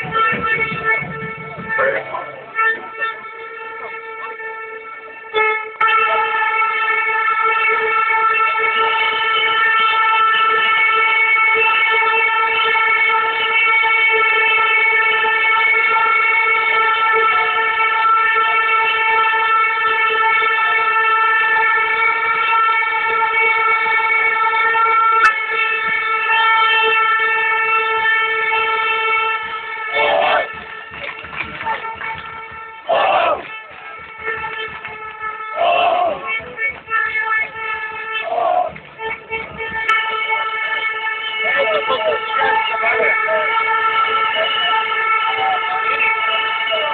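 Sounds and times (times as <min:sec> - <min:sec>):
air horn blast: 0:00.0 - 0:46.9.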